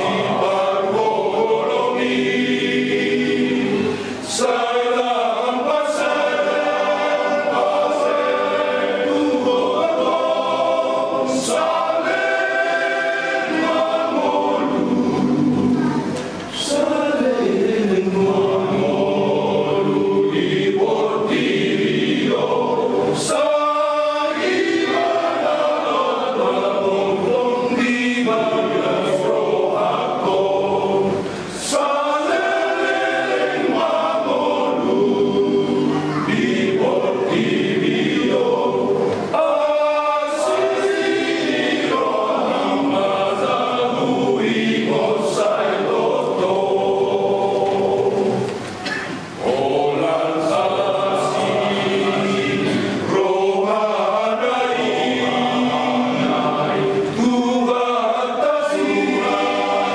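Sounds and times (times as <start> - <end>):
men's choir singing a hymn: 0.0 - 59.9.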